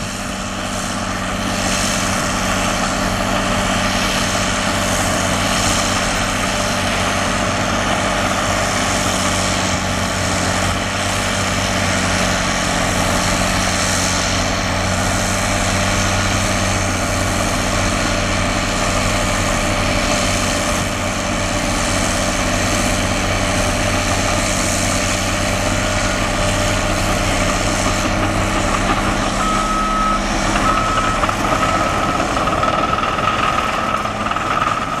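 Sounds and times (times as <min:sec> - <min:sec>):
bulldozer diesel engine droning: 0:00.0 - 0:35.0
track and machine noise: 0:00.0 - 0:35.0.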